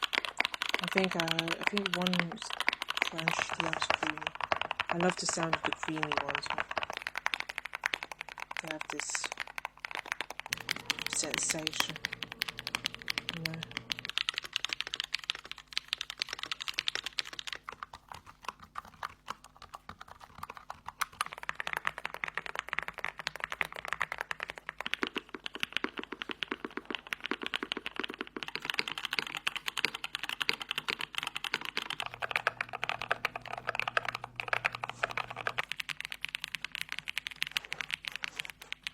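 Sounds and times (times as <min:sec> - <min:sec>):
typing on mechanical keyboards: 0:00.0 - 0:38.9.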